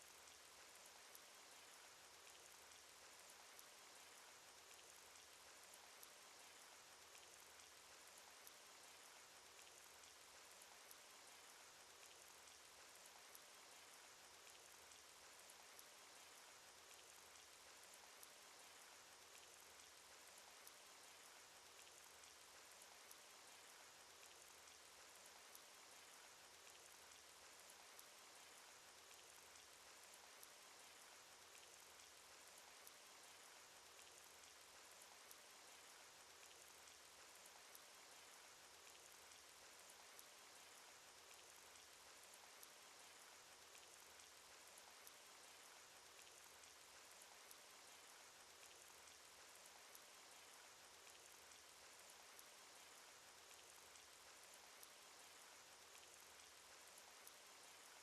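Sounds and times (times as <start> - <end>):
faint steady rain: 0.0 - 58.0.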